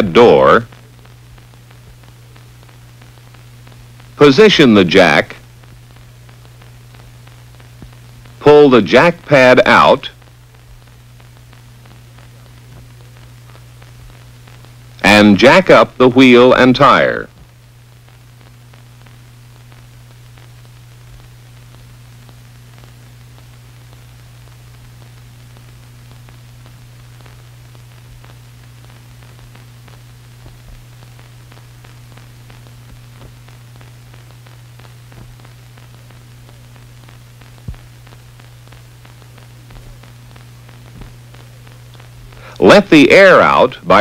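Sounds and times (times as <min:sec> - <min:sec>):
low hum and hiss: 0:00.0 - 0:44.0
film crackles and clicks: 0:00.5 - 0:04.3, 0:04.9 - 0:15.1, 0:17.2 - 0:44.0.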